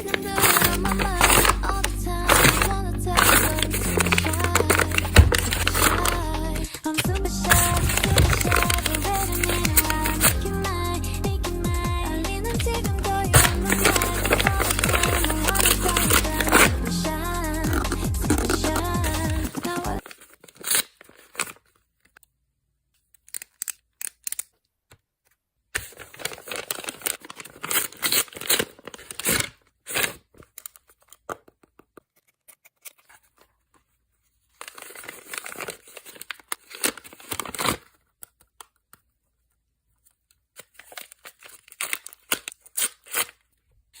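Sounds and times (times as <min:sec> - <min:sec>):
paper crinkling and tearing: 0:00.0 - 0:10.5, 0:13.2 - 0:16.8, 0:17.7 - 0:21.9, 0:25.8 - 0:39.1, 0:40.1 - 0:44.0.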